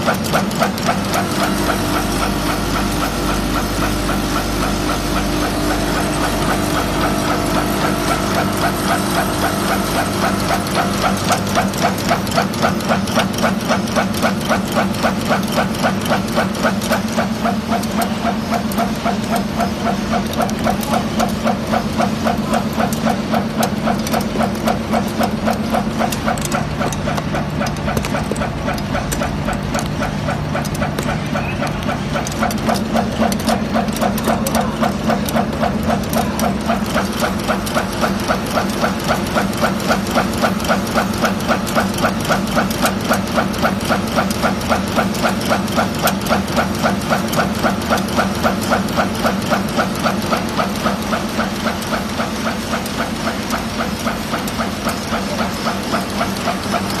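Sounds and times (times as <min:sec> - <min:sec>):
steady motor hum: 0:00.0 - 0:57.0
thread rolling machine strokes: 0:00.0 - 0:57.0.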